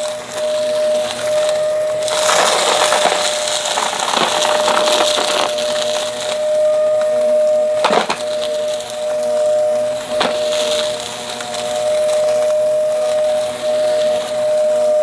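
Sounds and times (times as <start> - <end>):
dry debris crackling: 0.0 - 15.0
vacuum cleaner motor whine: 0.0 - 15.0.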